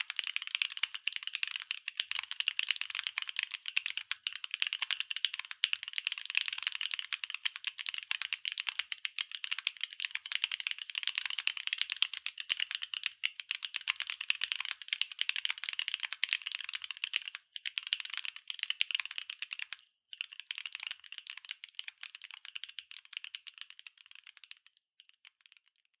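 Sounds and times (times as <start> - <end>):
mechanical keyboard typing: 0.0 - 25.9.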